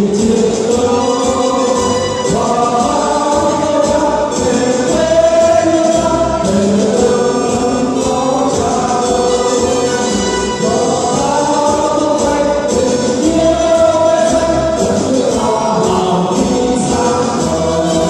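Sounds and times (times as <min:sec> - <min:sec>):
steady musical accompaniment: 0:00.0 - 0:18.0.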